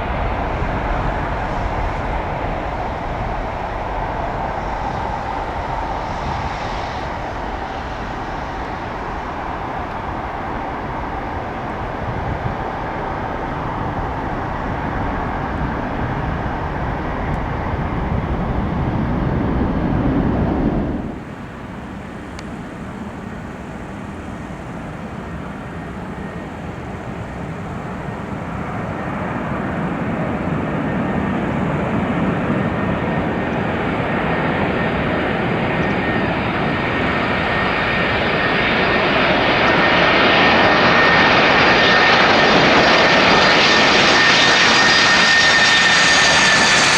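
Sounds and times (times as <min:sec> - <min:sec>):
jet approaching to land: 0:00.0 - 0:46.9
jet taking off: 0:00.0 - 0:46.9.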